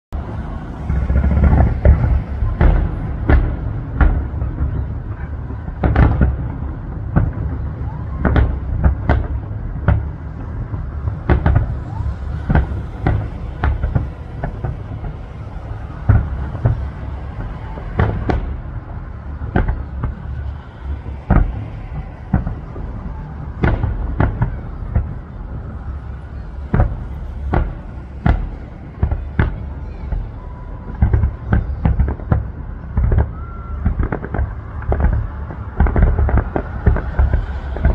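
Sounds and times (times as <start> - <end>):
low rumble of fireworks: 0.1 - 37.9
fireworks bangs: 0.2 - 37.9.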